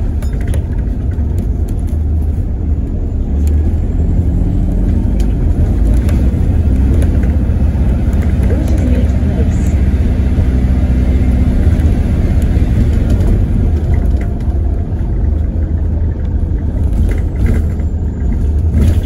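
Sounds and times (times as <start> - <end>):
bus drivetrain and road rumble: 0.0 - 19.0.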